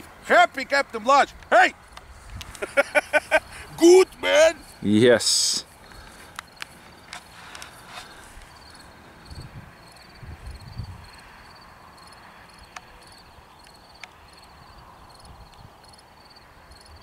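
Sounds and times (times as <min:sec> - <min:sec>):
insects chirping: 0:02.6 - 0:17.0.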